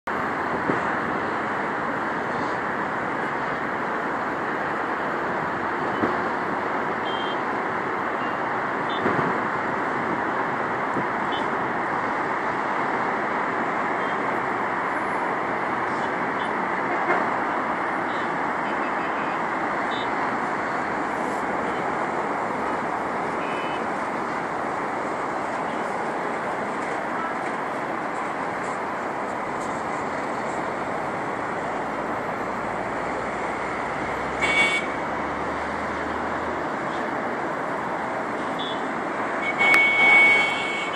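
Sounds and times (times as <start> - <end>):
city road traffic: 0.0 - 40.9.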